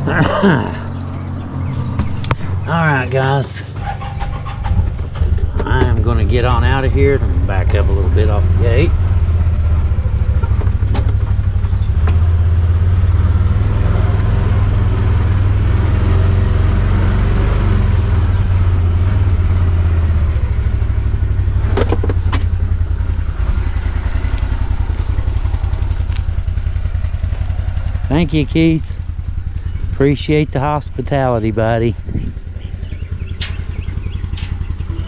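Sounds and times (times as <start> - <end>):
vehicle engine reversing slowly: 0.0 - 35.0.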